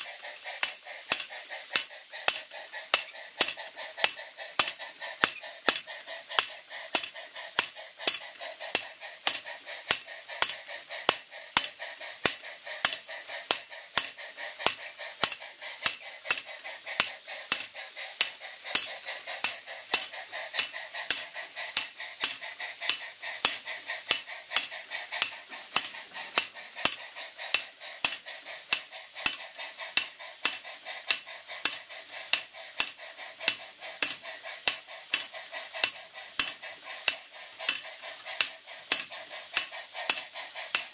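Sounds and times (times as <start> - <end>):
steam engine hissing: 0.0 - 40.9.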